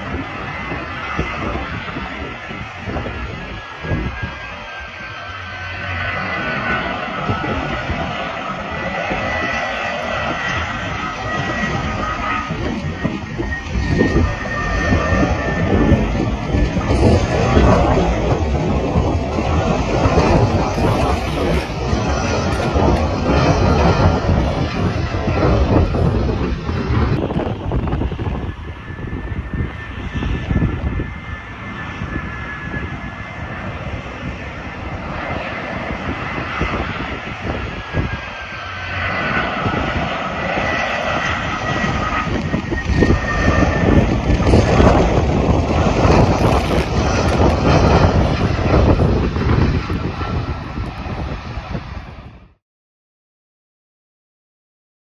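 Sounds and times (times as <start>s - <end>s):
jet engines whining: 0.0s - 52.6s
low jet rumble: 0.0s - 52.6s.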